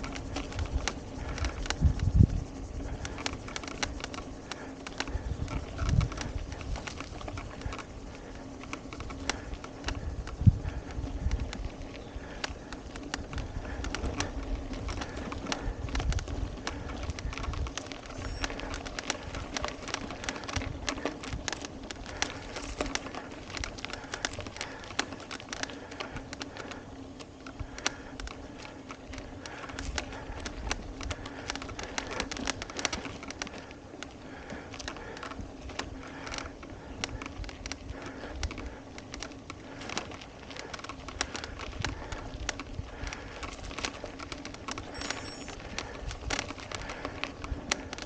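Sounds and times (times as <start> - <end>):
bicycle frame and chain rattling: 0.0 - 48.0
bicycle tyres crunching on gravel: 0.0 - 48.0
wind rumble: 0.0 - 48.0.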